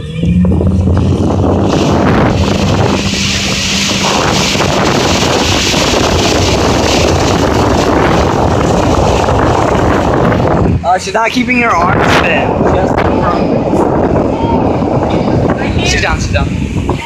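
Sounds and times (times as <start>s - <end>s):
motorboat engine hum: 0.0s - 17.0s
wind on microphone: 0.0s - 17.0s.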